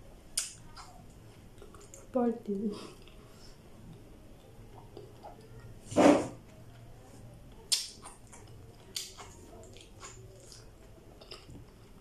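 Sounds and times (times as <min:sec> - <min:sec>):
soft chewing and mouth clicks: 0:00.2 - 0:12.0.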